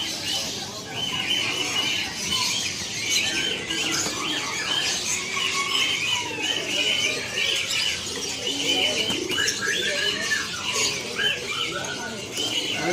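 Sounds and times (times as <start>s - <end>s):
birds chirping in chorus: 0.0s - 12.9s.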